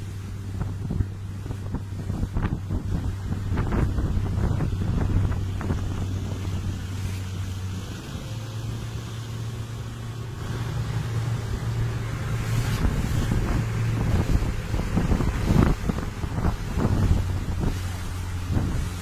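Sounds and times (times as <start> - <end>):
boat engine humming: 0.0 - 19.0
water noise: 0.0 - 19.0
wind: 0.0 - 19.0.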